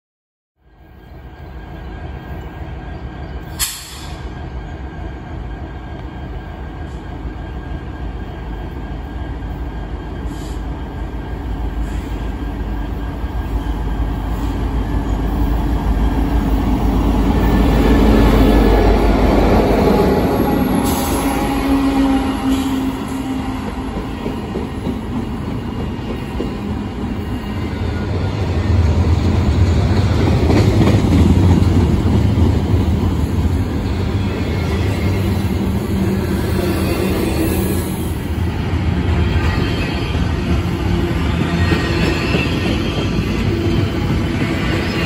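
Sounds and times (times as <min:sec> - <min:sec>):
freight train passing: 0:00.6 - 0:45.0.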